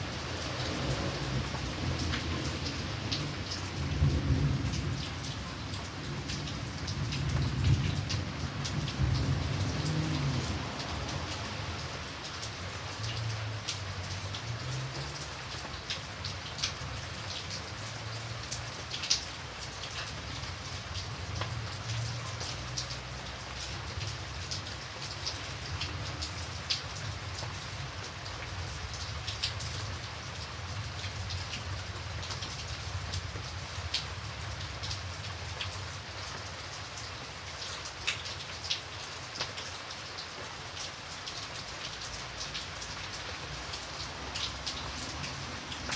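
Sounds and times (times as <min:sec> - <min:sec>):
rain hissing: 0:00.0 - 0:37.0, 0:39.8 - 0:45.9.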